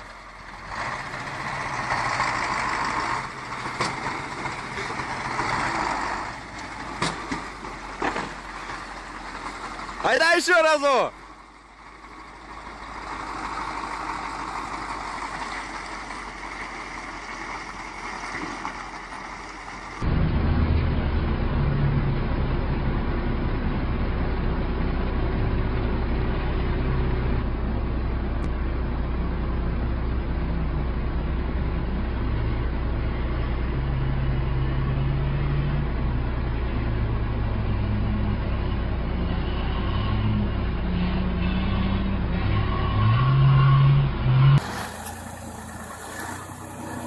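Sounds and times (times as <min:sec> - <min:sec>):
truck engine under load: 0:00.0 - 0:47.0.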